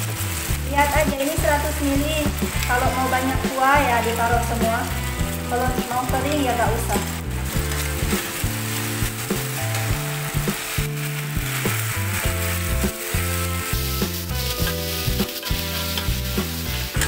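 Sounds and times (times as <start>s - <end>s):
background music with bass line: 0.0s - 17.0s
metal spatula stirring: 0.0s - 17.0s
sauce sizzling in hot oil: 0.0s - 17.0s.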